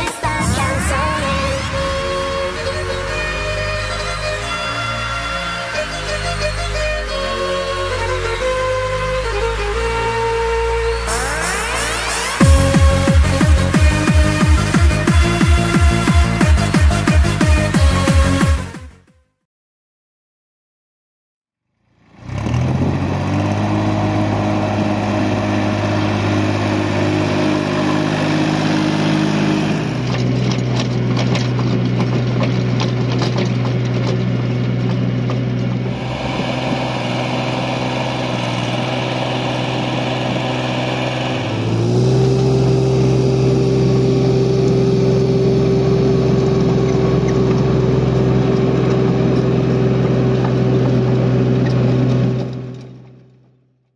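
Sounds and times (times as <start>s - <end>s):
tractor diesel engine under load: 0.0s - 18.8s, 21.8s - 53.8s.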